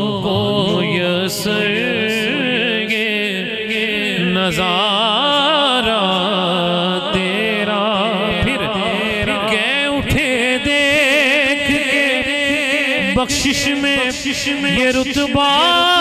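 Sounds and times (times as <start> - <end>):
man singing through a microphone: 0.0 - 16.0.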